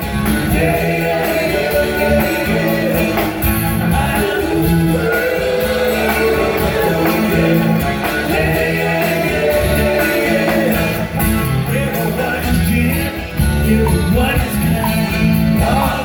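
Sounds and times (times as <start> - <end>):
live rock band playing: 0.0 - 16.0
steady drum beat: 0.0 - 16.0.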